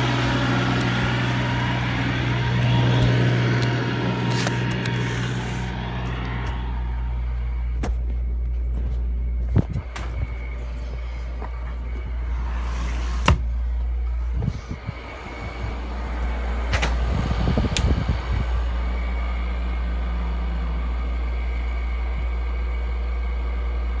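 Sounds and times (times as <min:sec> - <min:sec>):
window air conditioner humming: 0:00.0 - 0:24.0.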